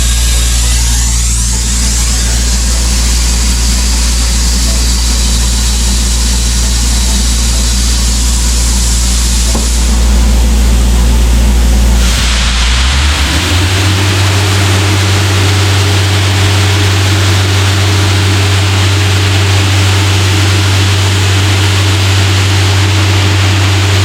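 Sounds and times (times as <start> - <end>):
compressed air hissing: 0.0 - 24.0
diesel compressor engine running: 0.0 - 24.0.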